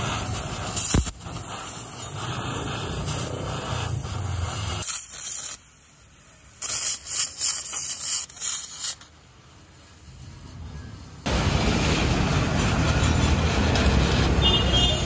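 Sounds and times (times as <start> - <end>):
welding torch flame hissing: 0.0 - 15.0.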